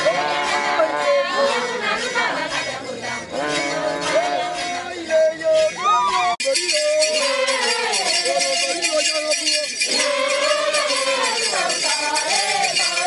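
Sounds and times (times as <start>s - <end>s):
voices singing: 0.0s - 13.0s.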